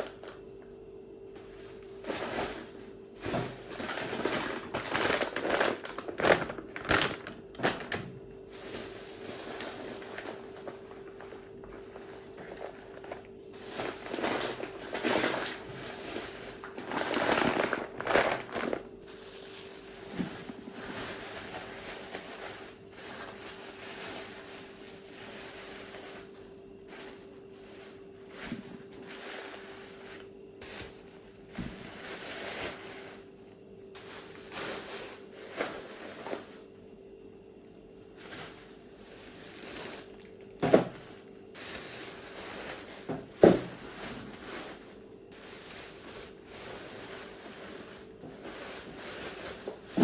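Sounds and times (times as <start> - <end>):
faint steady hum: 0.0 - 50.0
rustling and crinkling: 1.3 - 36.7, 38.1 - 50.0.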